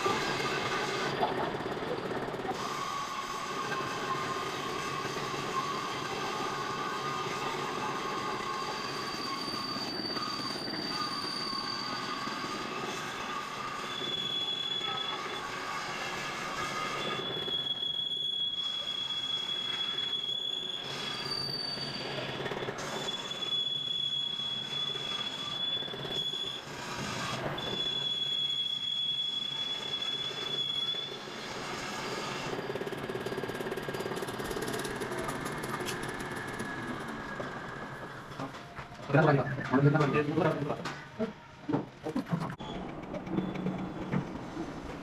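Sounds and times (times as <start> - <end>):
metal-on-metal squeal: 2.5 - 45.0.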